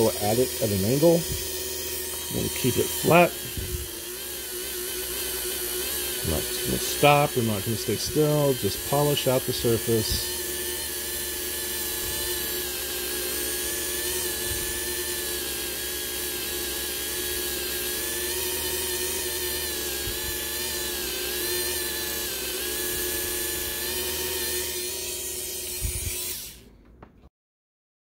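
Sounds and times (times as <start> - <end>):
rotary tool high-pitched whine: 0.0 - 26.8.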